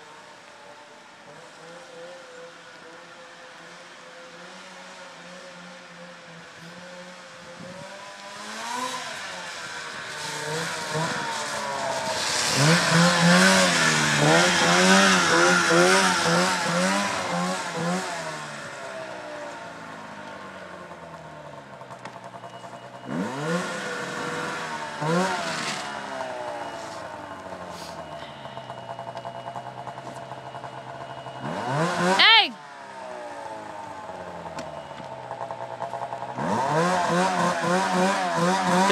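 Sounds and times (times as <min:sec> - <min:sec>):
snowmobile engine revving: 0:01.2 - 0:21.1, 0:22.9 - 0:34.5, 0:35.3 - 0:38.9.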